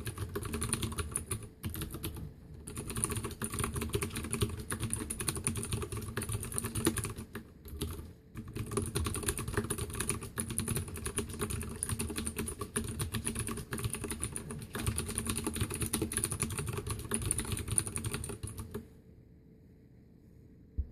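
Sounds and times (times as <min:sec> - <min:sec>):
mechanical keyboard typing: 0:00.0 - 0:18.8.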